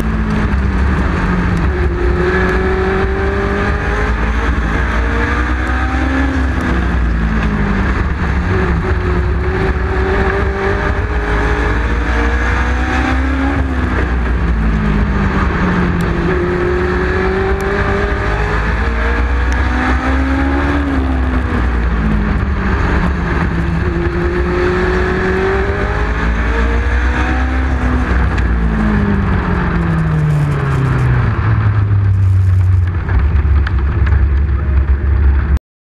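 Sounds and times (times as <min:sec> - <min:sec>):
racing motorcycle engine: 0:00.0 - 0:35.6
wind noise: 0:00.0 - 0:35.6.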